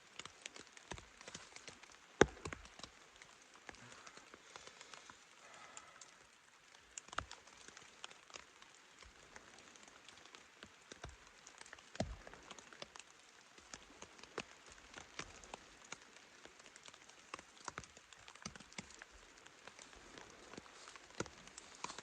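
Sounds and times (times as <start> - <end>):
rain tapping on fabric: 0.0 - 22.0.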